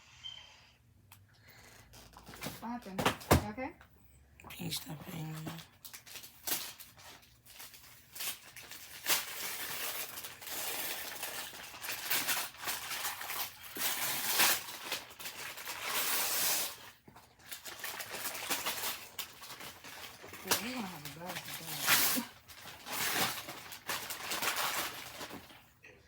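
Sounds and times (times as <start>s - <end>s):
wrapping paper tearing and crinkling: 4.6s - 25.7s.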